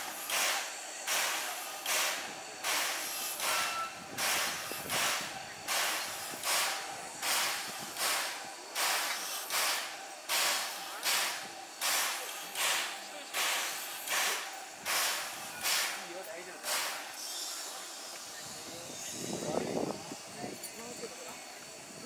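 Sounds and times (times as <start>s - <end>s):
steam locomotive hissing puffs: 0.0s - 22.0s.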